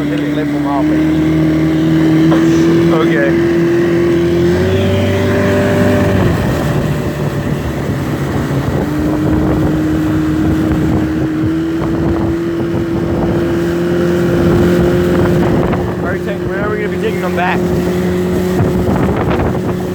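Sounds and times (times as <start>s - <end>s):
motorboat engine running: 0.0s - 19.9s
rush of water noise: 0.0s - 19.9s.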